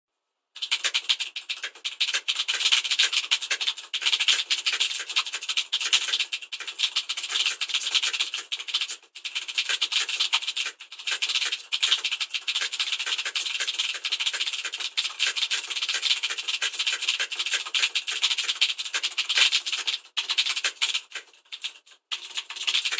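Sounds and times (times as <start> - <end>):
fast typing on mechanical keyboard: 0.6 - 22.9.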